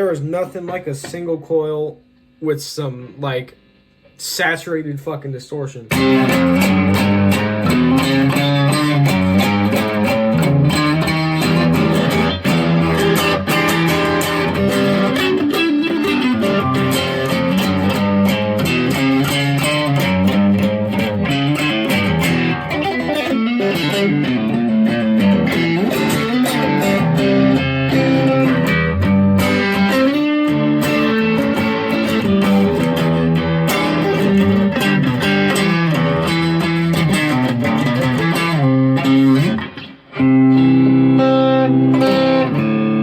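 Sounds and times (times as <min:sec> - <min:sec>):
distorted electric guitar blues: 0:05.7 - 0:43.0.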